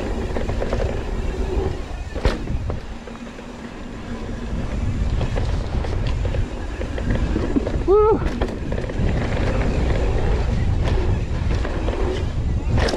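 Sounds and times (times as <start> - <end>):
wind on microphone: 0.0 - 3.2, 3.9 - 12.9
bike rattling: 0.0 - 12.9.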